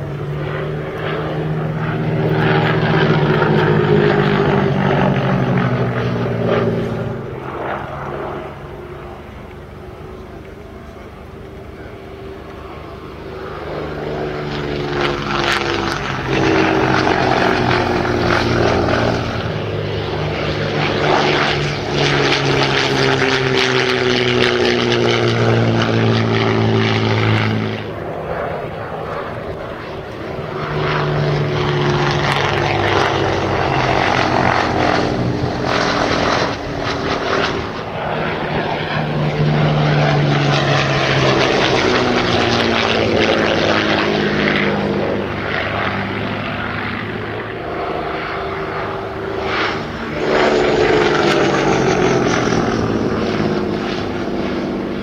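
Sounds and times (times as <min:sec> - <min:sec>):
propeller planes flying past: 0:00.0 - 0:55.0.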